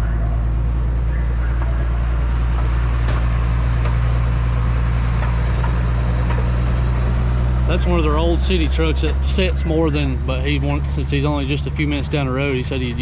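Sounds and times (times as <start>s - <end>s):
mulching machine engine drone: 0.0s - 13.0s.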